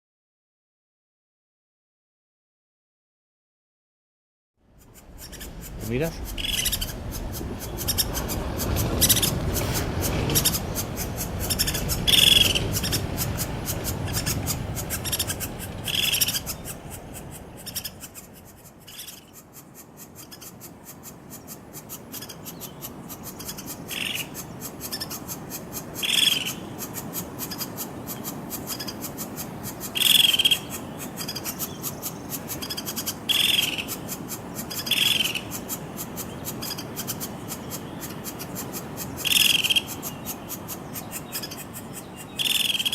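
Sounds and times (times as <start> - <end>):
woodpecker giving sharp calls: 4.7 - 42.9.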